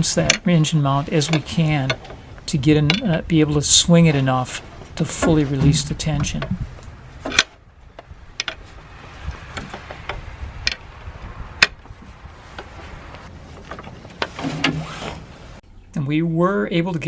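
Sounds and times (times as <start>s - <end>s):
light handling noise: 0.0s - 15.6s.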